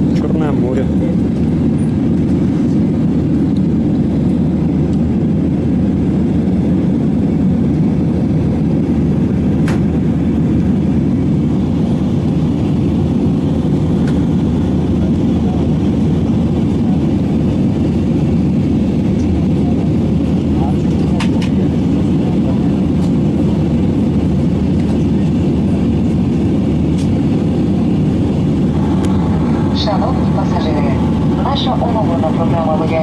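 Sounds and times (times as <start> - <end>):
jet engine cabin drone: 0.0 - 33.0.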